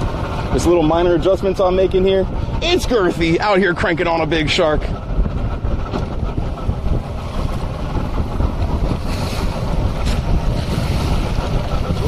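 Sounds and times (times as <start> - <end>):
boat engine running: 0.0 - 12.0
water rushing along hull: 0.0 - 12.0
wind buffeting microphone: 0.0 - 12.0.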